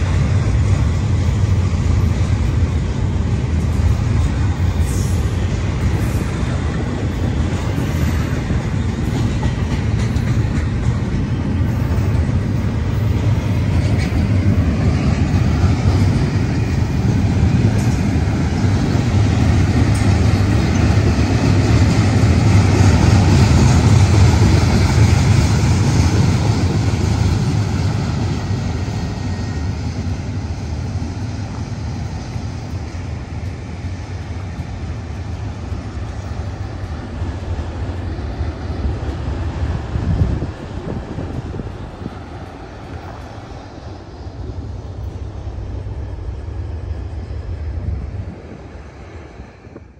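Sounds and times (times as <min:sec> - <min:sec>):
freight train wheels rumbling on rails: 0:00.0 - 0:49.9.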